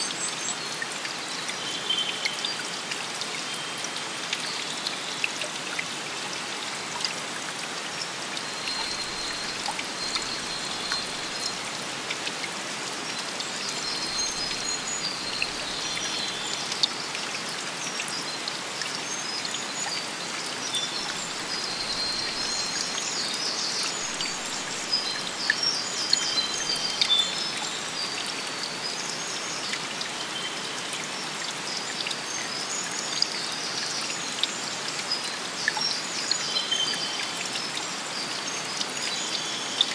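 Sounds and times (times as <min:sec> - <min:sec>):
stream water flowing: 0:00.0 - 0:39.9
water dripping: 0:00.0 - 0:39.9.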